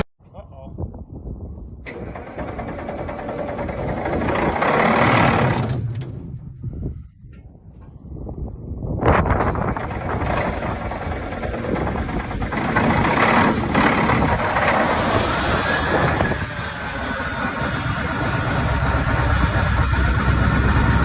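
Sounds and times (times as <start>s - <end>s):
deep engine rumble: 1.4s - 21.0s
engine whine: 1.8s - 21.0s
diesel engine running: 1.9s - 8.1s, 9.2s - 21.0s.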